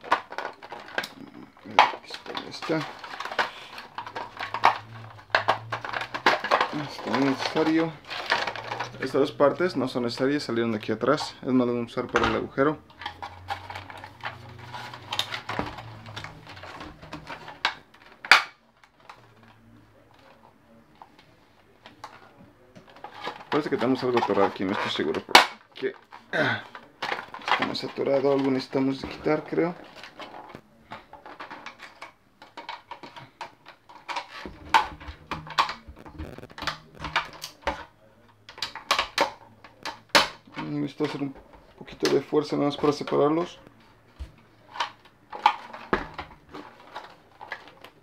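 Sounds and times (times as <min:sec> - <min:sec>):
plastic parts clicking and rattling: 0:00.0 - 0:48.0.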